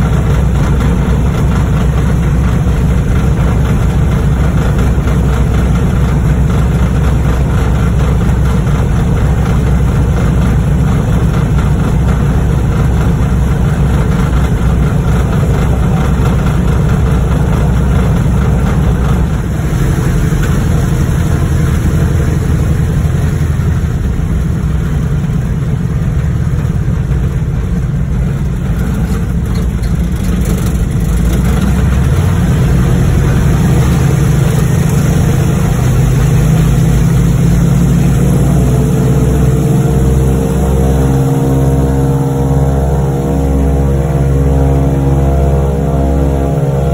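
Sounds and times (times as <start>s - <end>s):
propeller airplane engine droning: 0.0s - 46.9s.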